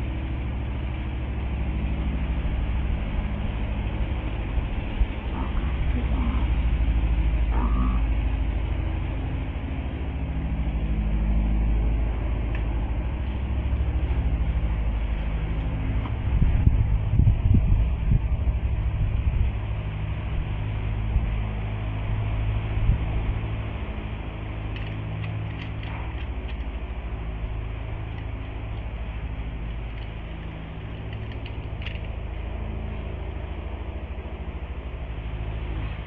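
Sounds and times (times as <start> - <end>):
low pulsing mechanical hum: 0.0 - 36.0.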